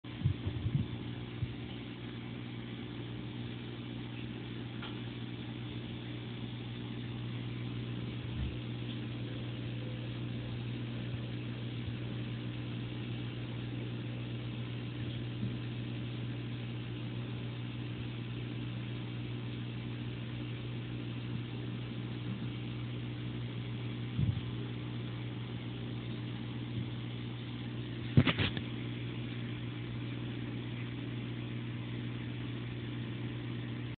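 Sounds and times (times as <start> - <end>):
aquarium filter pump humming: 0.0 - 34.0.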